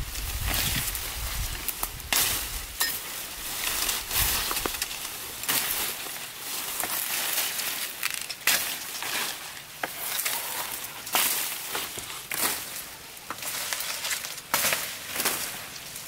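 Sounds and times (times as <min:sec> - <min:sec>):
leaves rustling: 0:00.0 - 0:16.0
machete chopping grass stalks: 0:01.6 - 0:10.4, 0:11.1 - 0:15.7.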